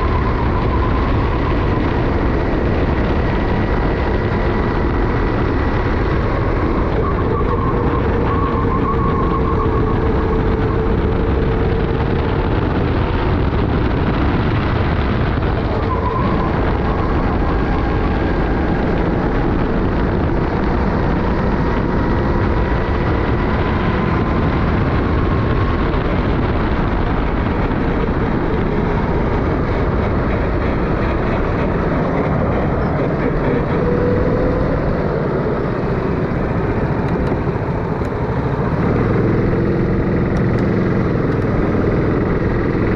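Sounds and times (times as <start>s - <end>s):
kart engine running hard: 0.0s - 42.9s
wind rush on microphone: 0.0s - 42.9s.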